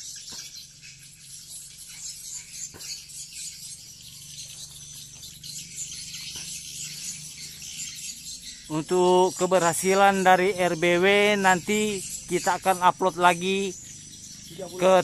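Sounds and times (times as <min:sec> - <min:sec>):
high-pitched bird twittering: 0:00.0 - 0:15.0.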